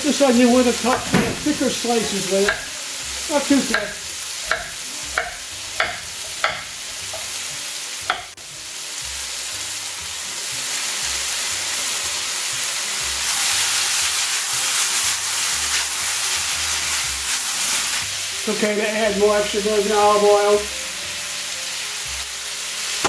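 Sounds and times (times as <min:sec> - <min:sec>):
peppers sizzling in a pan: 0:00.0 - 0:23.0.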